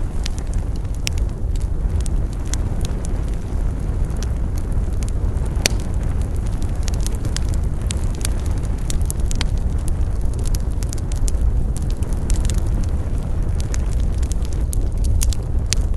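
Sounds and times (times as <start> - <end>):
steady low rumble: 0.0 - 15.9
wood fire crackling and popping: 0.0 - 15.9.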